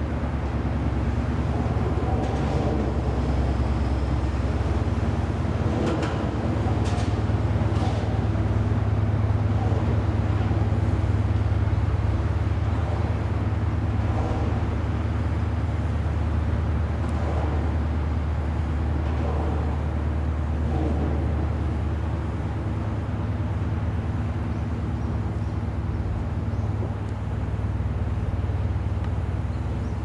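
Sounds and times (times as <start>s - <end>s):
motor boat engine drone: 0.0s - 30.0s.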